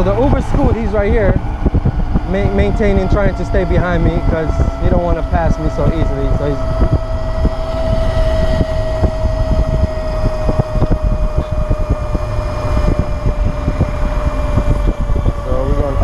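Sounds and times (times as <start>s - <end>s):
electric scooter motor whining: 0.0s - 16.0s
tyres rumbling on road: 0.0s - 16.0s
wind on microphone: 0.0s - 16.0s.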